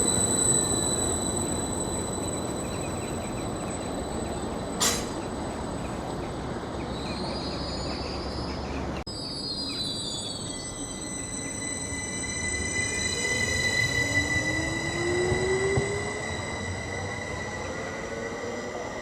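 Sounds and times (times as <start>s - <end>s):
train wheels squealing on rails: 0.0s - 19.0s.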